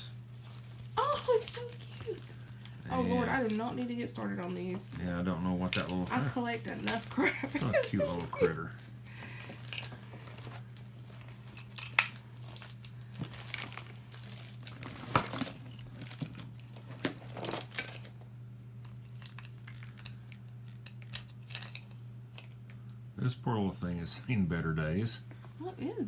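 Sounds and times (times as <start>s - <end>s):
steady low hum: 0.0s - 26.0s
plastic toys rustling and clicking: 0.4s - 8.6s, 9.3s - 18.2s, 18.8s - 23.0s.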